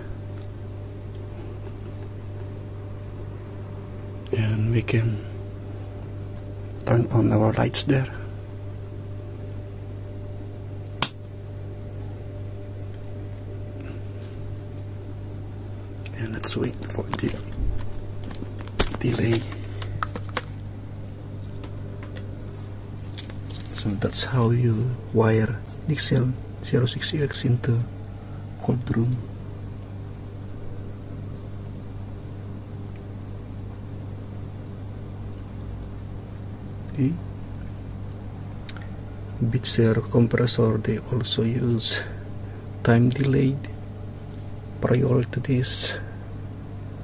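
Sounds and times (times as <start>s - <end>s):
low electrical hum: 0.0s - 47.0s.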